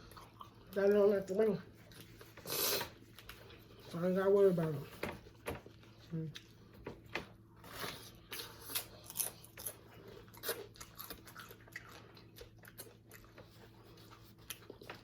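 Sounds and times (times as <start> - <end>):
person chewing and crunching food: 0.0 - 4.0, 5.3 - 15.0.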